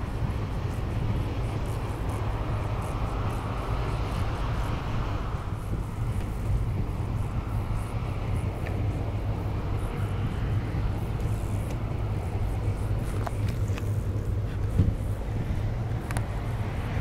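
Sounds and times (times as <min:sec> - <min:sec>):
ship engine drone: 0:00.0 - 0:17.0.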